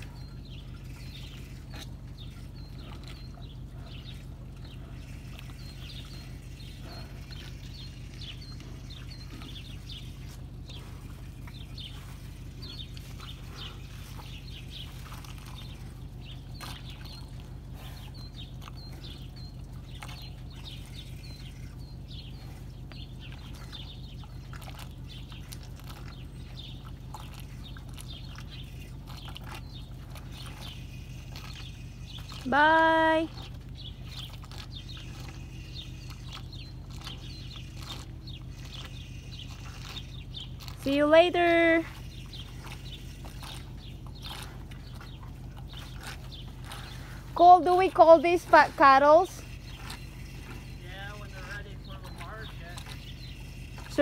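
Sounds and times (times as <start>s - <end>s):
cattle drinking water: 0.0s - 54.0s
small birds chirping: 0.0s - 54.0s
steady low hum: 0.0s - 54.0s.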